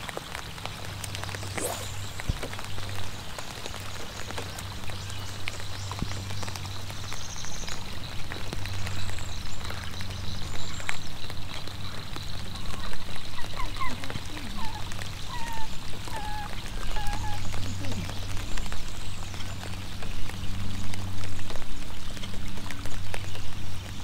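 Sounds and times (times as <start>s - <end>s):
rain on water and boat: 0.0s - 24.0s.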